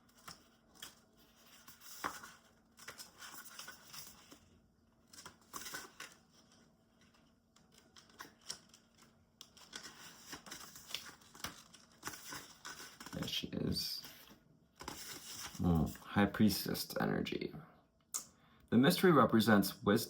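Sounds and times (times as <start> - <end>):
paper and cards rustling: 0.0 - 17.0.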